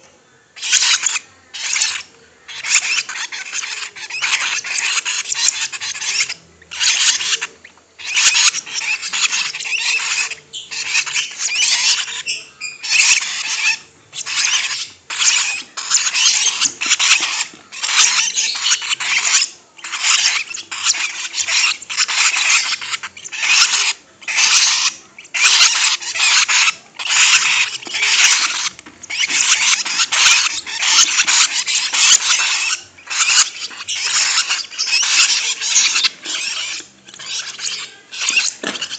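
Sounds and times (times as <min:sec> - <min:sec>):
lovebird chattering trills: 0:00.6 - 0:38.9.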